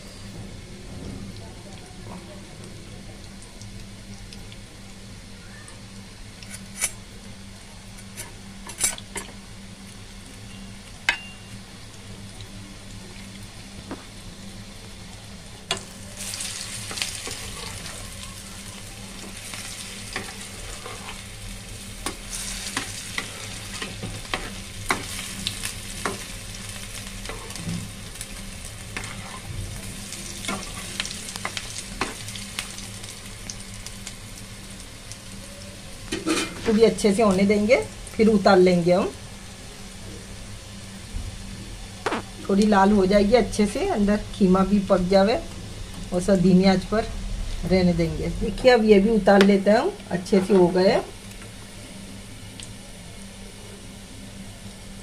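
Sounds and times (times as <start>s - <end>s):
patties sizzling in oil: 0.0s - 55.0s.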